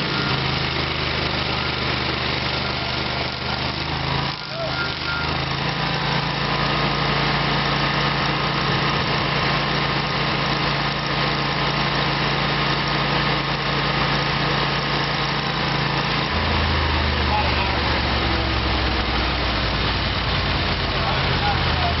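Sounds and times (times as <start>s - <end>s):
stump grinder engine running: 0.0s - 22.0s.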